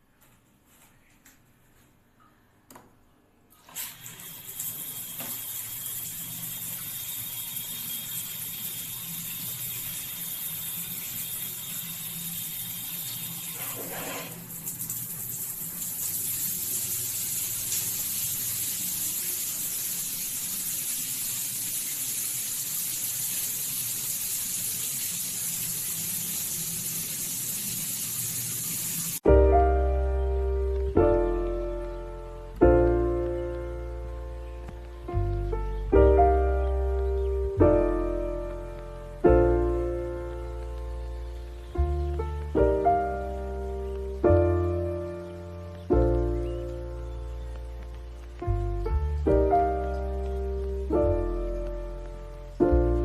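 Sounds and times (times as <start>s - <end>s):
water running through a tap: 3.6s - 29.4s, 30.5s - 53.0s.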